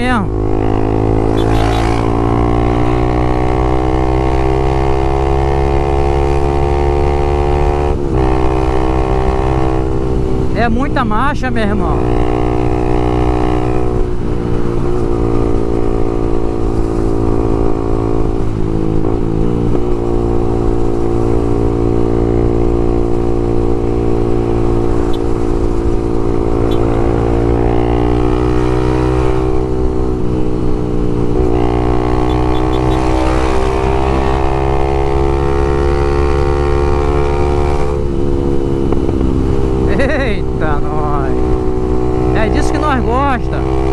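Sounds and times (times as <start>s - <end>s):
motorcycle engine running: 0.0s - 10.6s, 11.3s - 43.9s.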